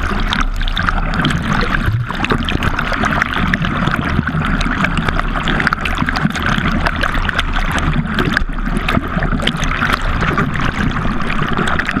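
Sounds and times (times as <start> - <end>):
low steady rumble: 0.0 - 12.0
water rushing and splashing: 0.0 - 12.0.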